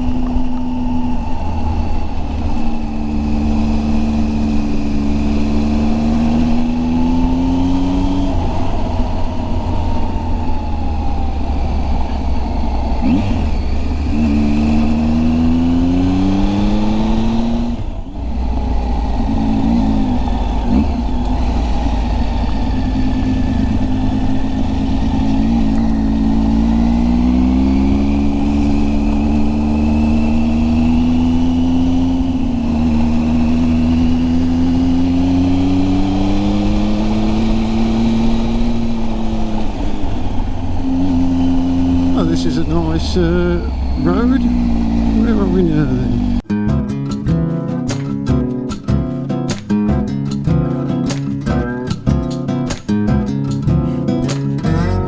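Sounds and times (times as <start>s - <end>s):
low wind rumble: 0.0s - 46.5s
motorcycle engine accelerating: 0.0s - 55.0s.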